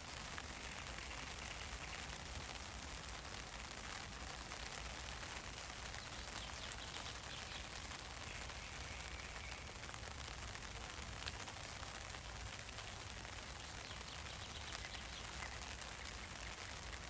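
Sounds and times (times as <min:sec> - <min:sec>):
rain on an umbrella: 0:00.0 - 0:17.0.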